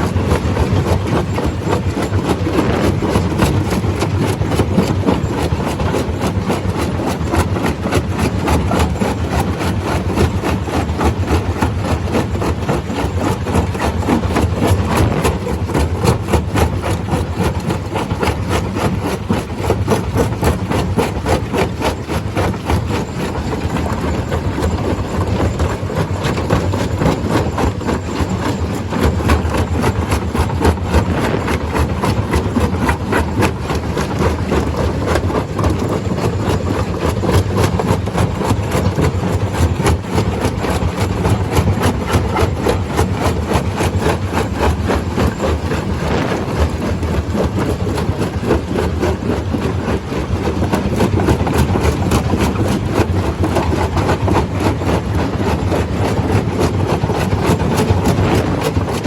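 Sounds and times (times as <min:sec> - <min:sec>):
stone crusher machine running: 0:00.0 - 0:59.0.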